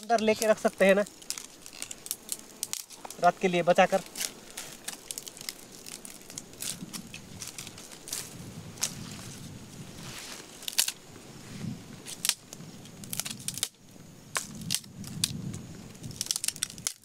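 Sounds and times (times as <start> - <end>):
firewood sticks snapping: 0.0 - 9.3, 10.4 - 11.0, 12.0 - 17.0
wood rustling and scraping: 0.0 - 13.7.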